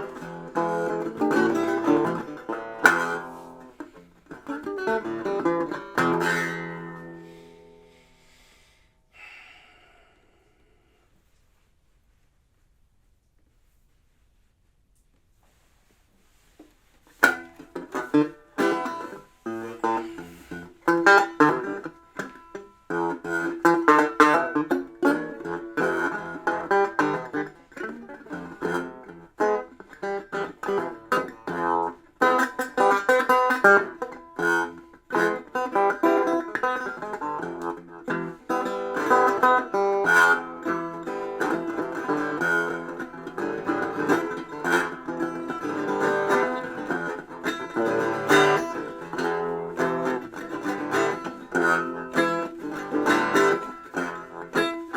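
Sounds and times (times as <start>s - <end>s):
guitar picking notes: 0.0s - 8.0s, 17.1s - 54.9s.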